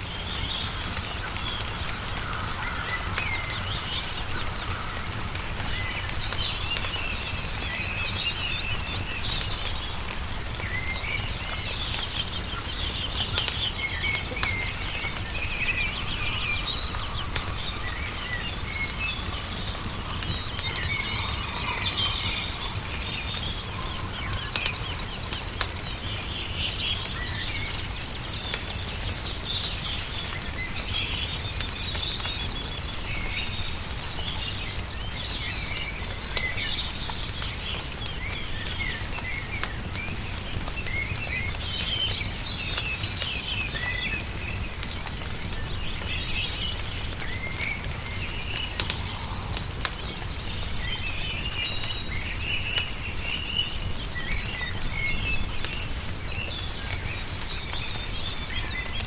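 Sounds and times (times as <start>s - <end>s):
songbirds chirping: 0.0s - 59.0s
wood fire crackling: 0.0s - 59.0s.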